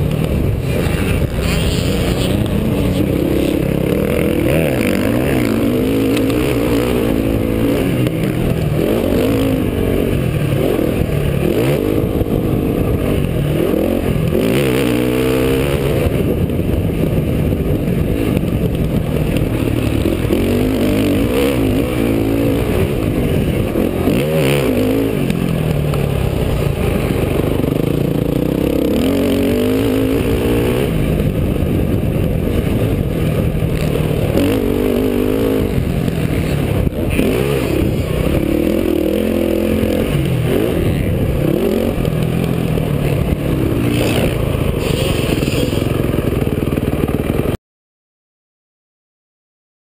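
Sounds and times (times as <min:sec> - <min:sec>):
dirt bike engine revving: 0:00.0 - 0:47.6.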